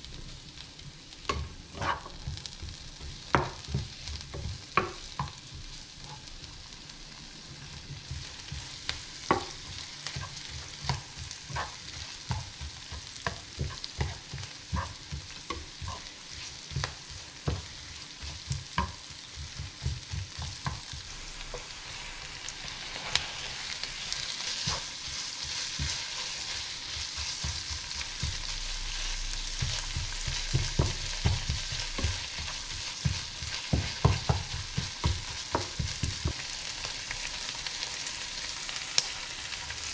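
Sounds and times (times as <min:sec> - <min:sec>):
onions sizzling in a frying pan: 0:00.0 - 0:39.9
spatula scraping a pan: 0:01.3 - 0:05.4, 0:08.0 - 0:36.5.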